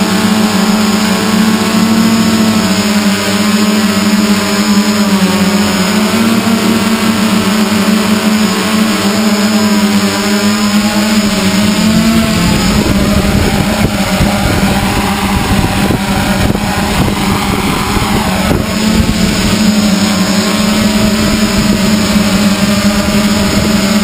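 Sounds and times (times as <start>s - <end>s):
multicopter propellers buzzing: 0.0s - 24.0s.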